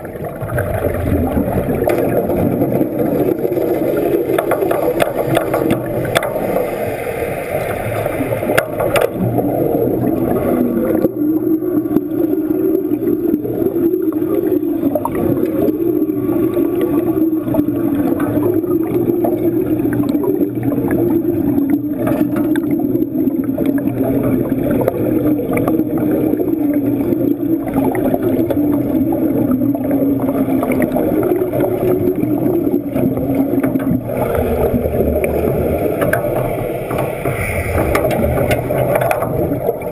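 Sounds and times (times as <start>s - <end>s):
crackling and bubbling: 0.0s - 39.9s.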